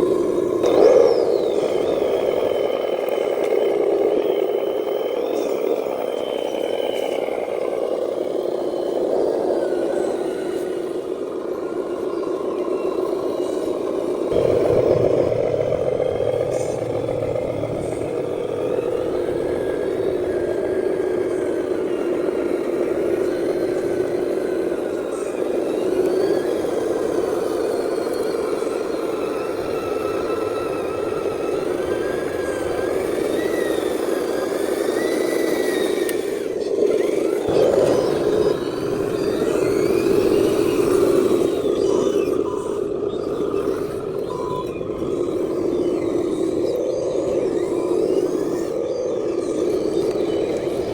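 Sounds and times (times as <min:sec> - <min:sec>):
electric motor and gearbox whining: 0:00.0 - 0:50.9.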